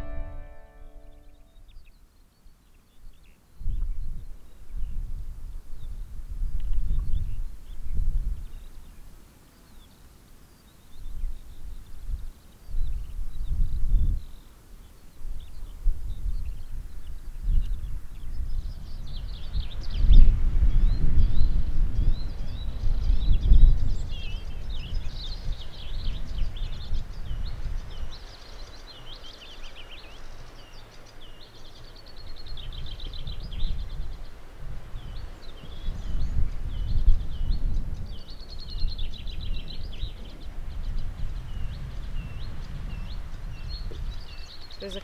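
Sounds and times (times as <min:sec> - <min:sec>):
songbirds singing: 0:00.0 - 0:45.0.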